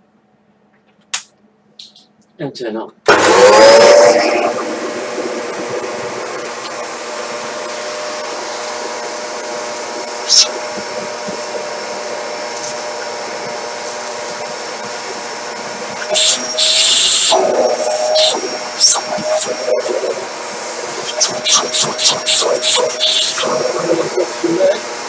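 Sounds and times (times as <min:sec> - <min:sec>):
vacuum cleaner motor whine: 0:03.1 - 0:25.0
hissing rushes of air: 0:03.2 - 0:23.9.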